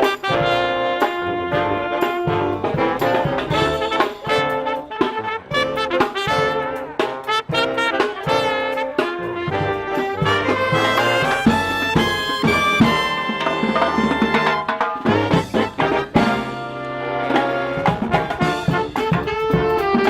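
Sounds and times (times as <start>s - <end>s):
brass marching band playing: 0.0s - 20.0s.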